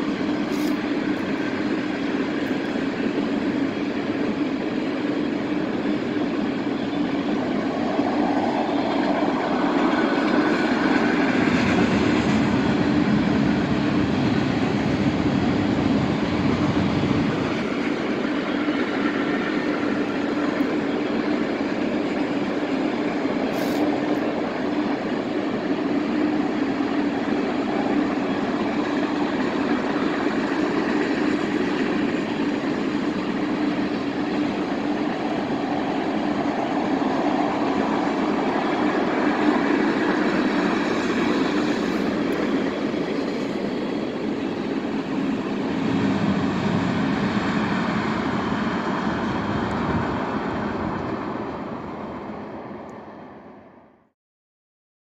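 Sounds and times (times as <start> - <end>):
train wheels on rail: 0.0 - 53.8.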